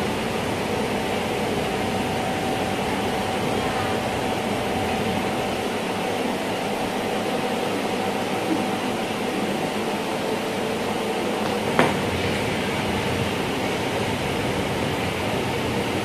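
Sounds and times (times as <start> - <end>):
faint constant hum: 0.0 - 16.0
machine blowing noise: 0.0 - 16.0.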